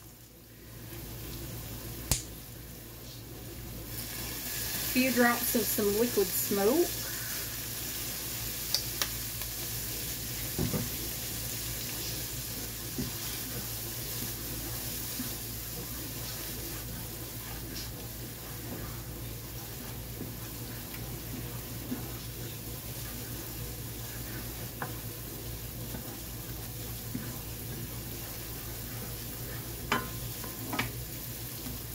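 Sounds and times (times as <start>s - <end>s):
vegetables sizzling in oil: 0.0s - 31.9s.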